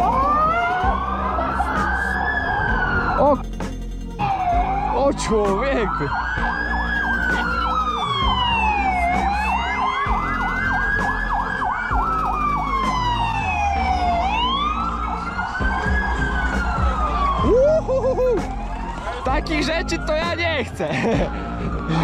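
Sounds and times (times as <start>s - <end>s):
low siren whoop: 0.0s - 3.4s, 4.2s - 5.2s, 5.8s - 20.4s, 21.4s - 22.0s
police siren wailing: 0.0s - 3.4s, 4.2s - 22.0s
police siren yelping: 0.0s - 3.4s, 4.2s - 22.0s.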